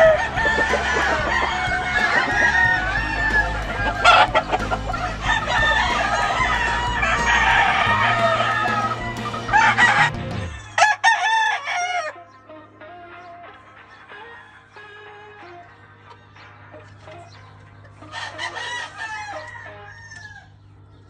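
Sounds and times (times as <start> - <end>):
chickens clucking: 0.0 - 21.0
roosters crowing: 0.0 - 21.0.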